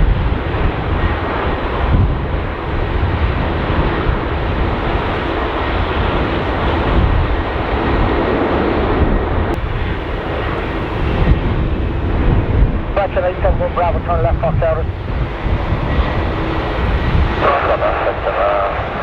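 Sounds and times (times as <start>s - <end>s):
jet engines running: 0.0s - 19.0s
wind rumbling on microphone: 0.0s - 19.0s.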